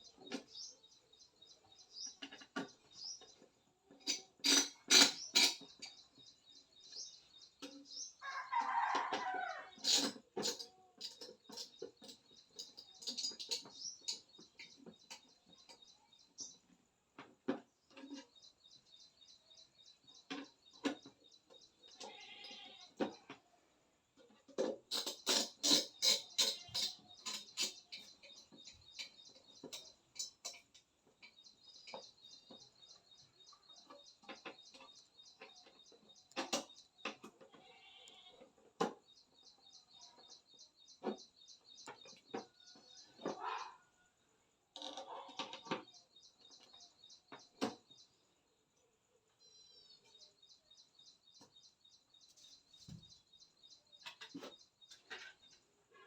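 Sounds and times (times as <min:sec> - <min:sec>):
birds chirping in trills: 0:00.0 - 0:23.4, 0:24.2 - 0:44.1, 0:44.7 - 0:48.6.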